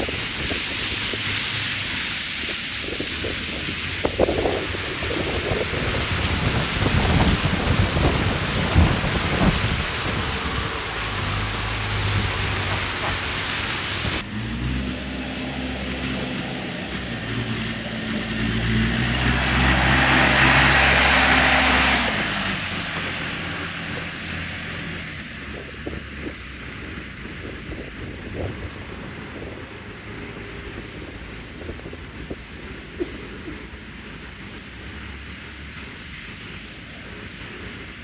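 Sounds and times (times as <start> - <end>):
wind on microphone: 0.0 - 34.8
tyres hissing on wet road: 0.0 - 38.0
vehicle engine humming: 0.0 - 38.0.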